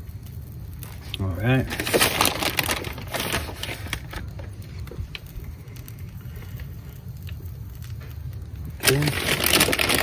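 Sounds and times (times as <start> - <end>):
gas burner noise: 0.0 - 10.0
griddle crackles: 0.0 - 10.0.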